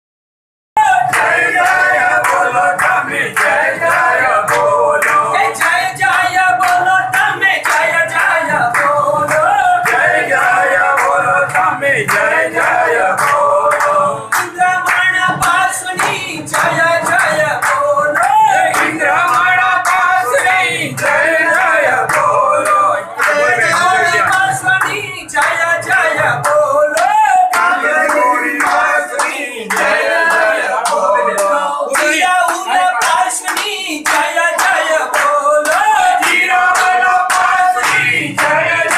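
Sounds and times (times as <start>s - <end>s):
group singing devotional song: 0.8s - 38.9s
hands clapping in rhythm: 0.8s - 38.9s.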